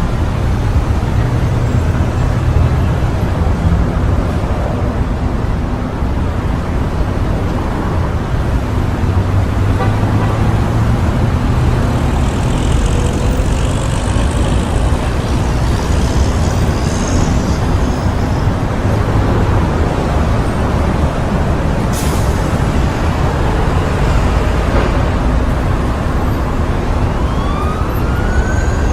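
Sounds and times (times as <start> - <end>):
vehicles passing close by: 0.0 - 28.9.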